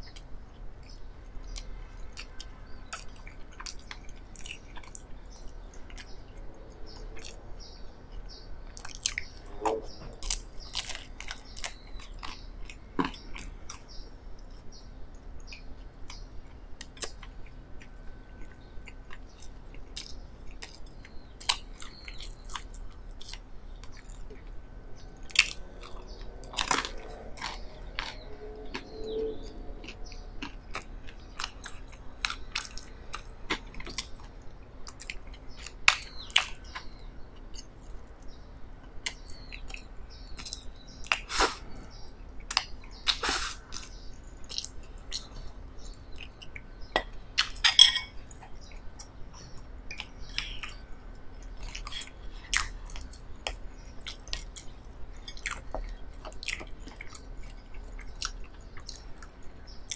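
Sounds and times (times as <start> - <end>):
chewing soft bread: 0.0 - 47.6, 48.2 - 59.9.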